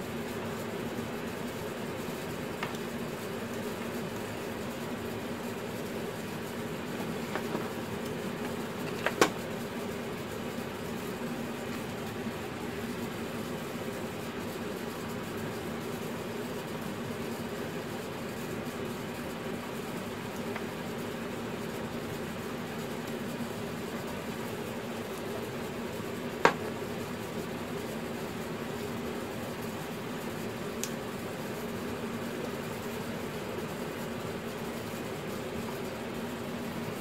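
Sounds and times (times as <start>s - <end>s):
mechanical hum: 0.0s - 37.0s.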